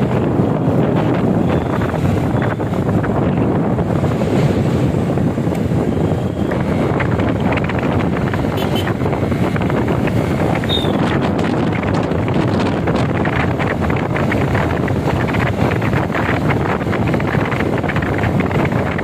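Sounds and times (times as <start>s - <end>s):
motorcycle engine: 0.0s - 19.0s
road noise: 0.0s - 19.0s
wind buffeting microphone: 0.0s - 19.0s.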